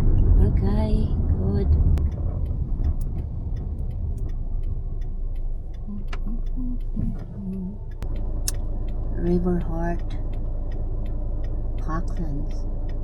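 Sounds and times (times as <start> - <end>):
car engine and road rumble: 0.0 - 13.0
turn signal ticking: 1.7 - 13.0.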